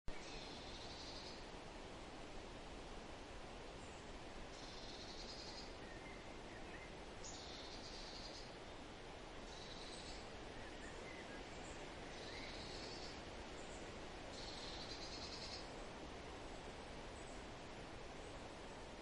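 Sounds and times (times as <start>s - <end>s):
faint steady hiss: 0.1s - 19.0s.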